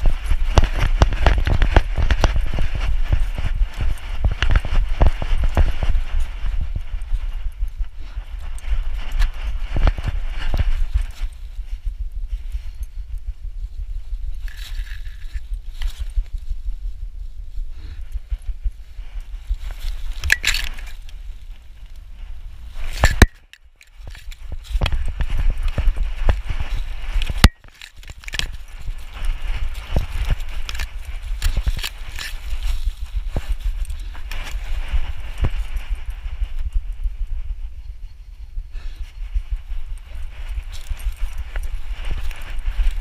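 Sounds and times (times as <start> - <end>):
grass rustling against camera: 0.0 - 43.0.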